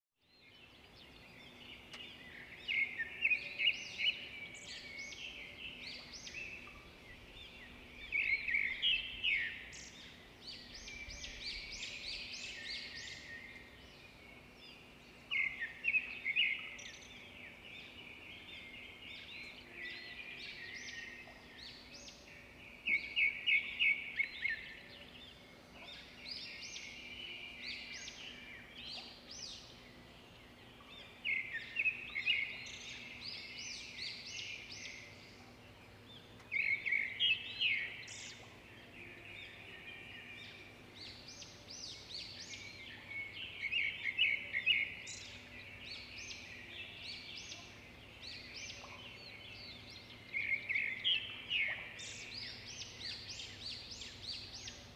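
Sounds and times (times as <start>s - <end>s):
small birds chirping: 0.2s - 54.9s.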